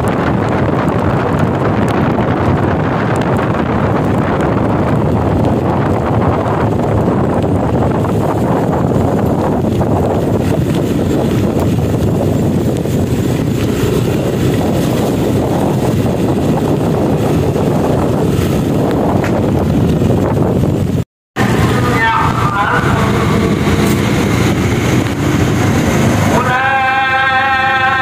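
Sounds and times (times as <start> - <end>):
scooter engine running: 0.0 - 28.0
wind buffeting microphone: 0.0 - 28.0.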